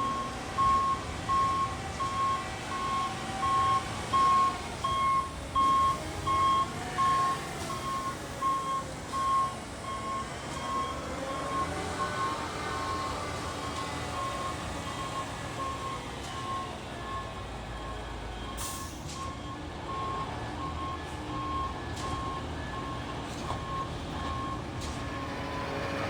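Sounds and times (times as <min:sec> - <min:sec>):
diesel engine running: 0:00.0 - 0:26.0
truck reversing alarm beeping: 0:00.0 - 0:26.0.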